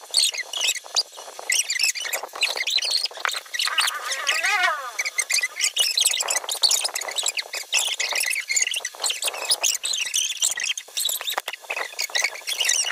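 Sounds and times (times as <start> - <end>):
small birds chirping: 0.1 - 12.9.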